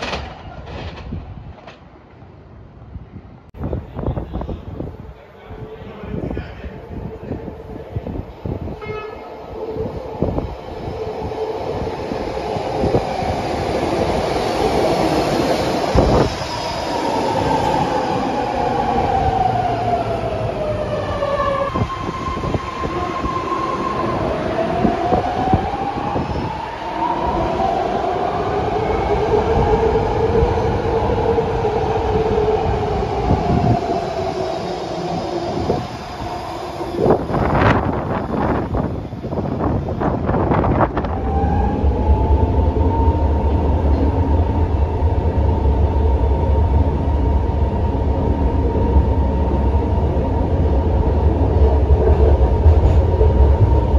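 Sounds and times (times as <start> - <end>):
train wheels rumbling on rail: 0.0 - 2.3, 3.6 - 53.9.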